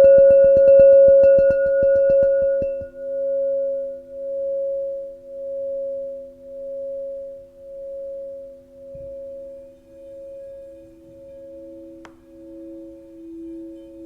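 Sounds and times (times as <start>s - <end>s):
crystal singing bowl ringing: 0.0s - 14.0s.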